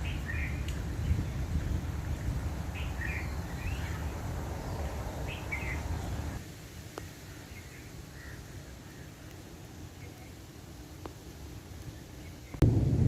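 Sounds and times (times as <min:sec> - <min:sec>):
birds chirping: 0:00.0 - 0:12.6
low wind rumble: 0:00.0 - 0:13.0.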